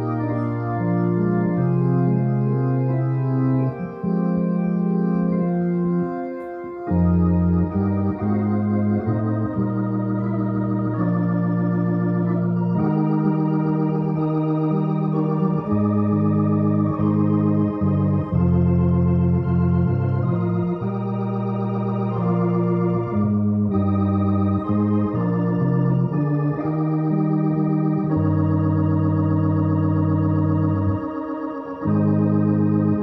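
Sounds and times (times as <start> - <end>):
electronic organ playing hymn: 0.0 - 33.0.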